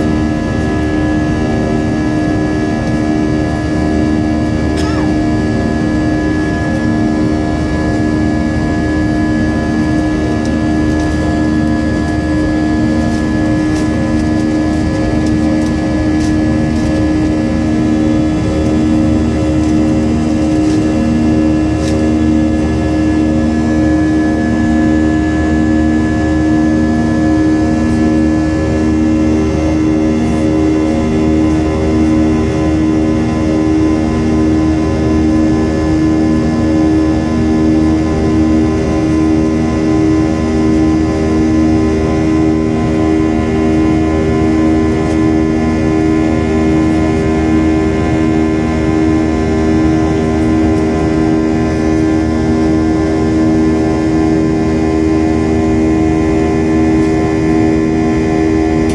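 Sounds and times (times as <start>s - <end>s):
jet engines roaring: 0.0s - 58.9s.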